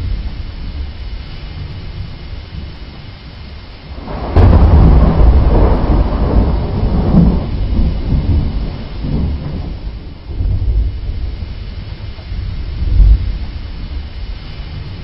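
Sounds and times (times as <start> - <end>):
thunder clap and rumble: 0.0 - 15.0.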